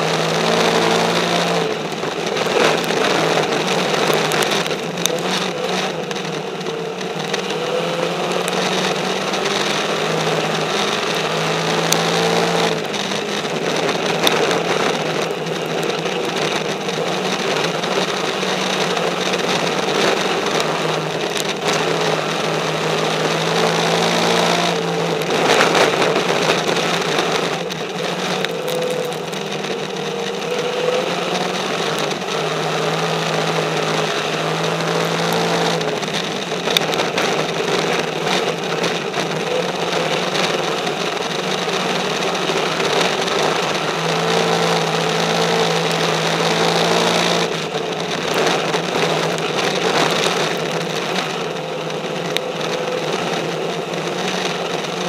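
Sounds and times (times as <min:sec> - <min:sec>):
race car engine: 0:00.0 - 0:55.0
road noise: 0:00.0 - 0:55.0
rushing wind: 0:00.0 - 0:55.0.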